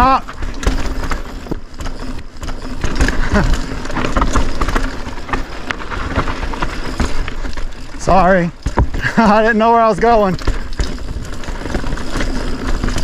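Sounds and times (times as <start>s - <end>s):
bike rattling: 0.0s - 13.0s
bike tyres knocking over rocks: 0.0s - 13.0s.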